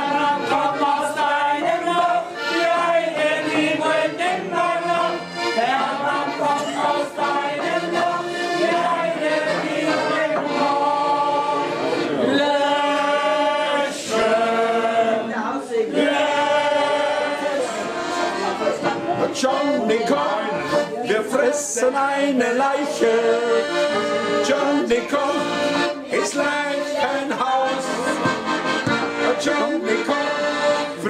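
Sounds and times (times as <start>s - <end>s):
accordion: 0.0s - 31.0s
people singing together: 0.0s - 31.0s.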